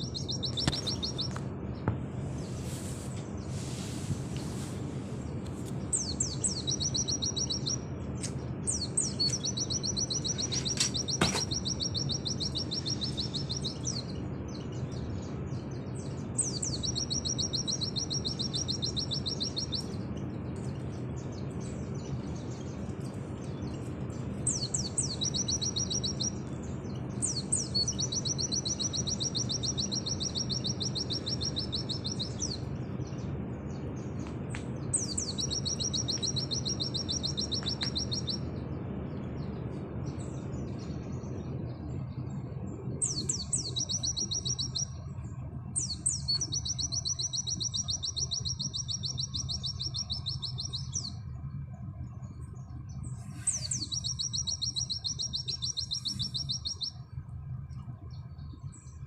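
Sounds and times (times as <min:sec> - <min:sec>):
bird singing fast trills: 0:00.0 - 0:01.8, 0:05.8 - 0:59.0
steady low hum: 0:00.0 - 0:59.0.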